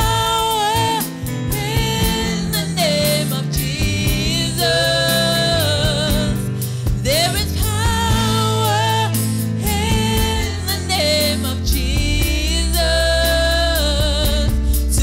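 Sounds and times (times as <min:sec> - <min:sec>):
drums: 0:00.0 - 0:15.0
keyboard: 0:00.0 - 0:15.0
woman singing with vibrato: 0:00.0 - 0:15.0.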